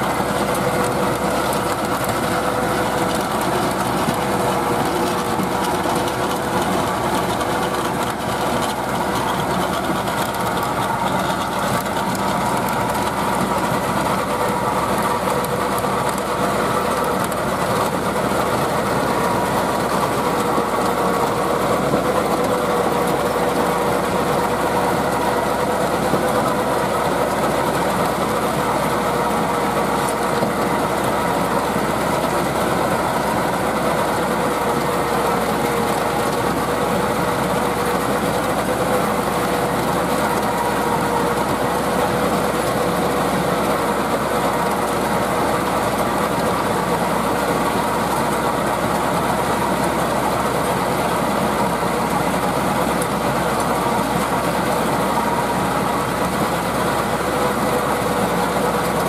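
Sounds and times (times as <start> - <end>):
rotary tiller churning soil: 0.0 - 59.0
tractor diesel engine under load: 0.0 - 59.0.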